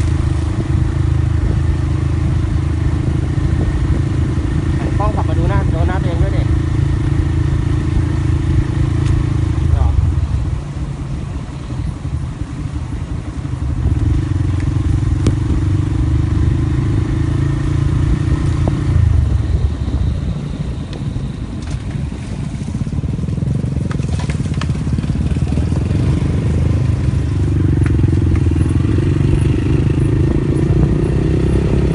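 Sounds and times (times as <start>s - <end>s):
vehicle engine droning: 0.0s - 31.9s.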